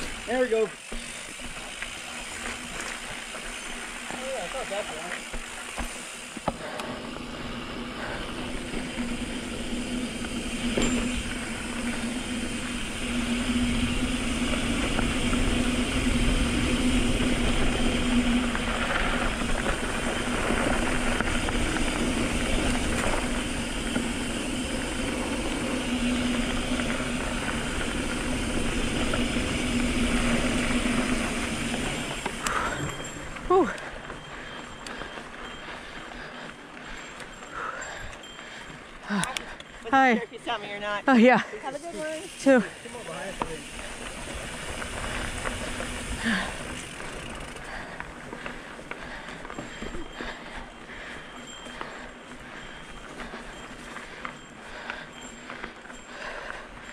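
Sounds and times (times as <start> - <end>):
bike tyre trail noise: 0.0 - 56.9.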